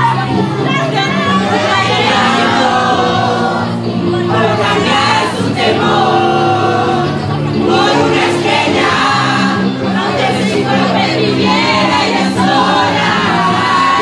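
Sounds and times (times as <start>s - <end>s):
karaoke backing track: 0.0s - 14.0s.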